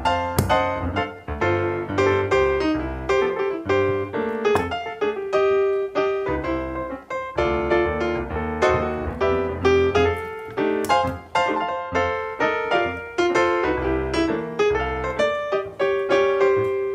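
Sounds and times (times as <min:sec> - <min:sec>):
piano music: 0:00.0 - 0:16.9.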